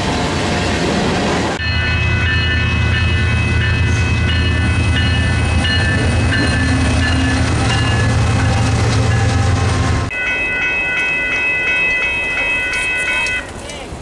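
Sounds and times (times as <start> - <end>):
diesel locomotives rumbling: 0.0 - 14.0
crossing bell ringing: 1.6 - 13.8.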